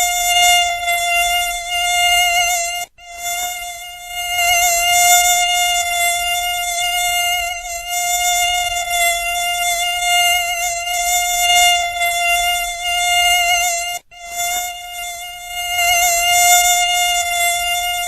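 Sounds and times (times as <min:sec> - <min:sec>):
mosquito whine: 0:00.0 - 0:18.0.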